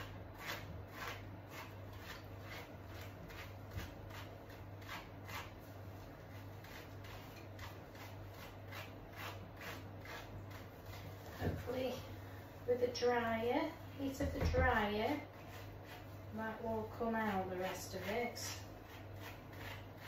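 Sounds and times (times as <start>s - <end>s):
brush strokes through wet fur: 0.0s - 20.0s
steady low hum: 0.0s - 20.0s.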